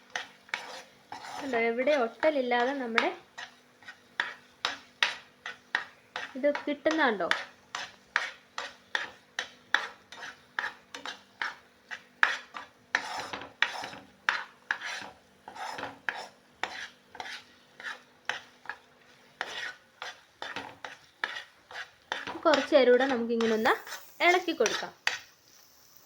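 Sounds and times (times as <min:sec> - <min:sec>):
spoon scraping a pan: 0:00.0 - 0:26.0.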